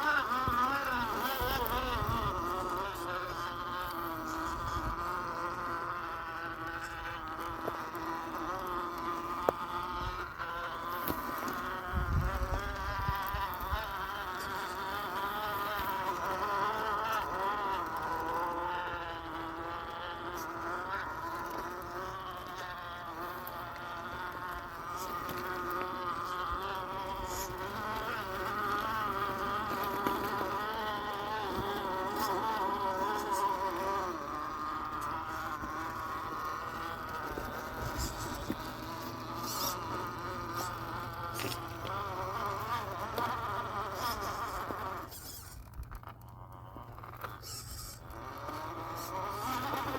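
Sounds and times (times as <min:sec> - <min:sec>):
toy car electric motor whining: 0:00.0 - 0:49.9.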